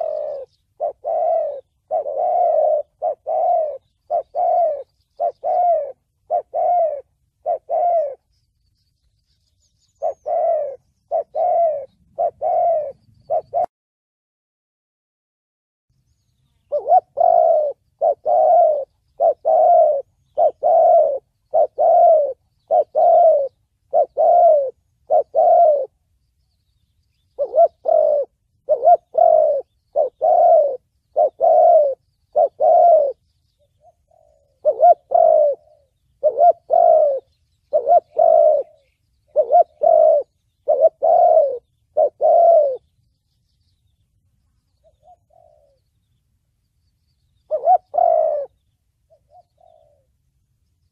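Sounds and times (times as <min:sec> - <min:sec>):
dove cooing: 0:00.0 - 0:08.3, 0:09.8 - 0:13.7, 0:16.6 - 0:26.0, 0:27.1 - 0:42.9, 0:44.7 - 0:46.1, 0:47.4 - 0:50.3.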